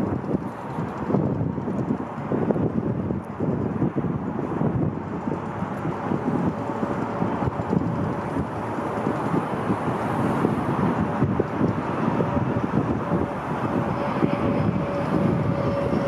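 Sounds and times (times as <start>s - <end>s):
jet engines rumbling with whine: 0.0s - 16.0s.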